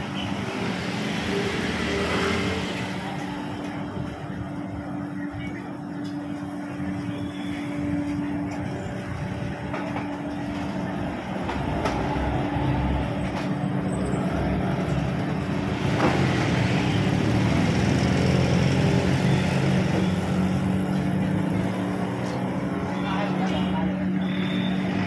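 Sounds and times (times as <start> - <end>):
road noise: 0.0 - 25.0
vehicle engines running: 0.0 - 25.0.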